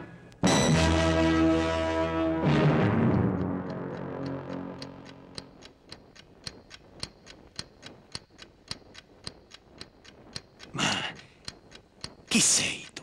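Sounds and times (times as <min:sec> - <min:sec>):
steady clock-like ticking: 0:00.0 - 0:13.0.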